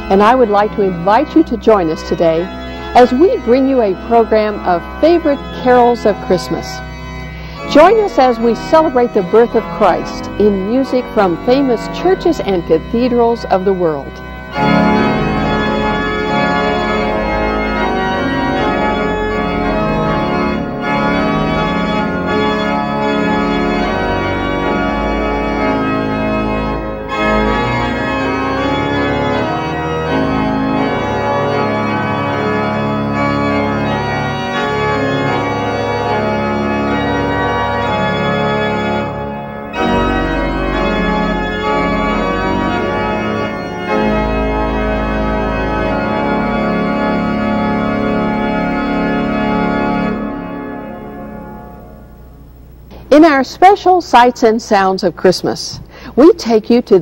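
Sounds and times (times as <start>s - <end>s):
deep organ pedal bass: 0.0s - 53.0s
pipe organ chords: 0.0s - 57.0s.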